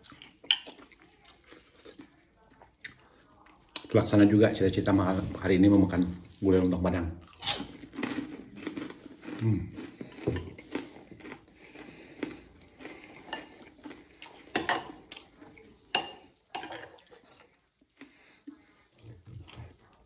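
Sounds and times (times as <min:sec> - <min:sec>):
chewing: 0:00.0 - 0:04.3, 0:07.2 - 0:20.0.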